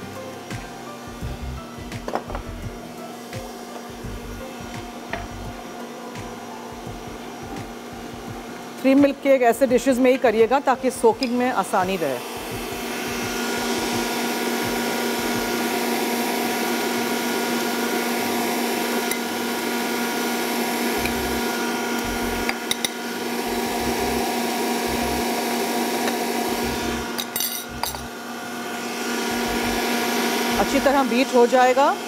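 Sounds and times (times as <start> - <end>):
electric mixer running: 0.0 - 32.0.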